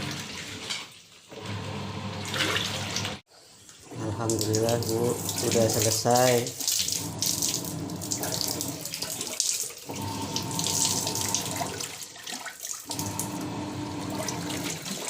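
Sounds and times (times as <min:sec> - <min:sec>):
washing machine motor hum: 0:00.0 - 0:00.7, 0:01.3 - 0:03.2, 0:03.8 - 0:15.0.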